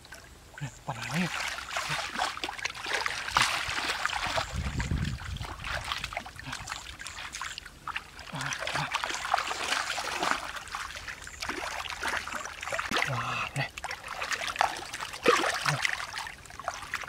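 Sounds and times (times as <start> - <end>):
hands splashing in muddy water: 1.0 - 17.0.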